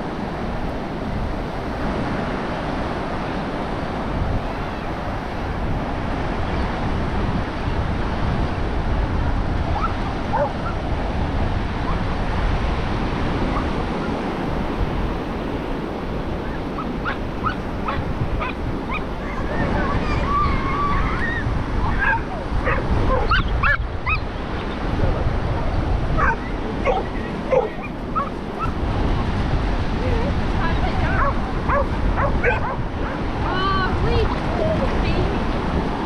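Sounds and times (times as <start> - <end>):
surf washing onto beach: 0.0 - 36.0
wind rumbling on microphone: 0.0 - 36.0.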